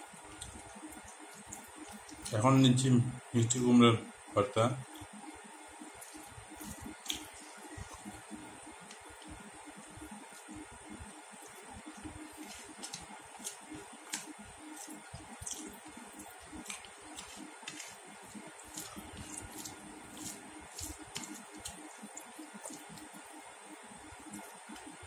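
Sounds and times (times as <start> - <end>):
wet chewing and food squishing: 0.2 - 2.4, 5.8 - 10.6, 11.4 - 25.0.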